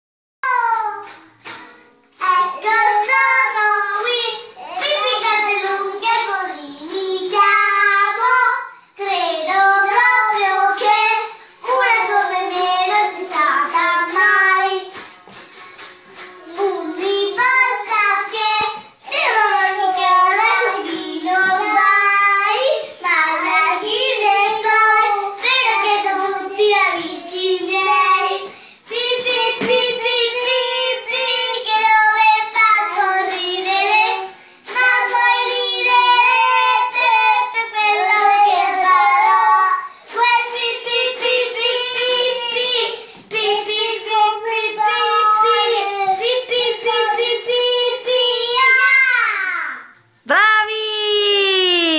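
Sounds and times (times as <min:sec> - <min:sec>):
young child singing: 0:00.4 - 0:01.2, 0:02.2 - 0:15.1, 0:16.2 - 0:49.9.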